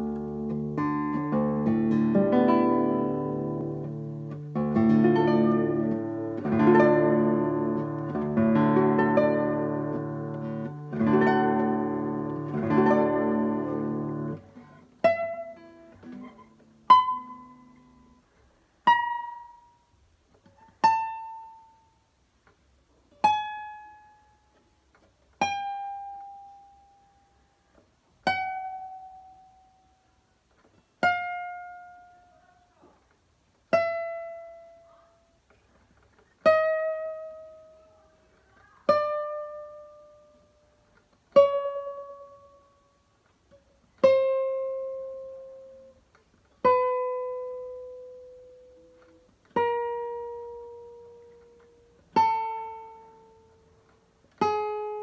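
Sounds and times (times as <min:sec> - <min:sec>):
guitar chords ringing: 0:00.0 - 0:20.0, 0:20.6 - 0:22.1, 0:23.1 - 0:24.8, 0:25.4 - 0:27.5, 0:28.2 - 0:30.2, 0:31.0 - 0:32.5, 0:33.7 - 0:35.4, 0:36.4 - 0:38.1, 0:38.9 - 0:55.0
plucked guitar notes: 0:00.0 - 0:22.1, 0:23.1 - 0:32.5, 0:33.6 - 0:35.6, 0:36.2 - 0:55.0.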